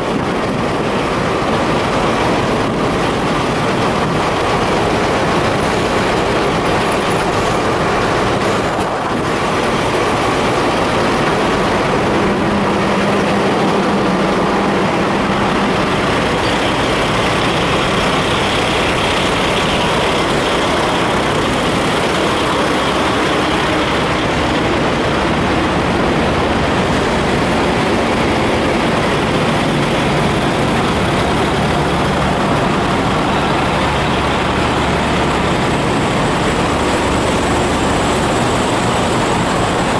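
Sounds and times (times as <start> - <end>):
diesel truck engines idling: 0.0 - 39.9.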